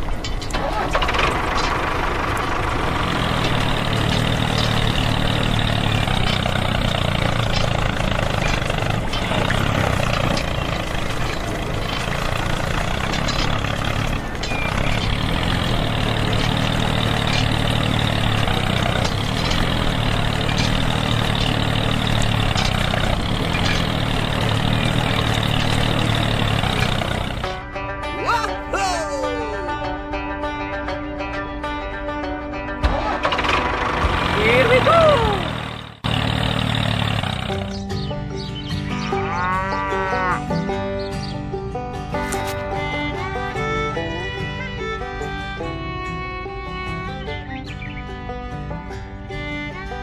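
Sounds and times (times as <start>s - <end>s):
tractor engine idling: 0.0s - 30.2s, 32.8s - 50.0s.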